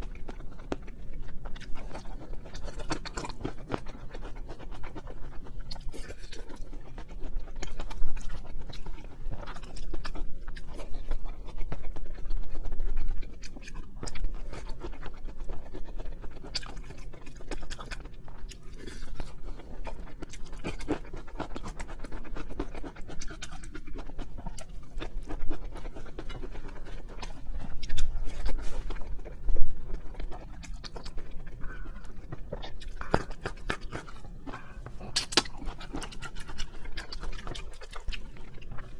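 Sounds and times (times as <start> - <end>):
person chewing seafood: 0.0 - 38.9.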